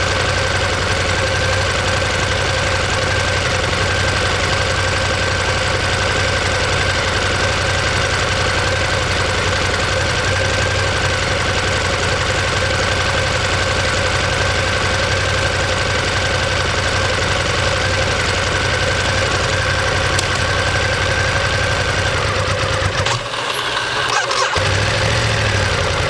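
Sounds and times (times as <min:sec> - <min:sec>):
motorcycle engine pulsing: 0:00.0 - 0:26.0.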